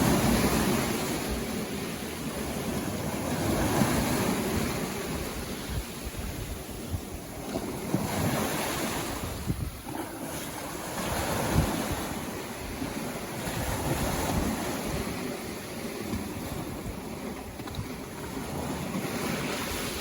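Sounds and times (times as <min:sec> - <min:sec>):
sea waves breaking on a beach: 0:00.0 - 0:20.0
wind rumbling on microphone: 0:00.0 - 0:20.0.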